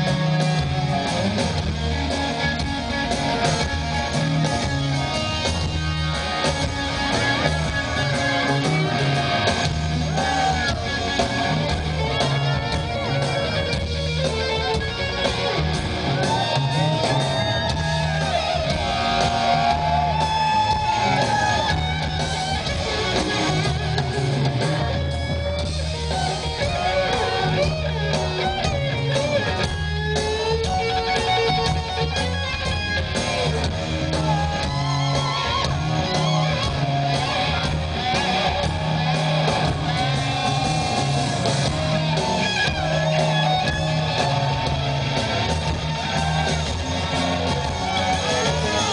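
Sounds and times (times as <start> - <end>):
bass and drums: 0.0 - 48.9
electric guitar lead: 0.0 - 48.9.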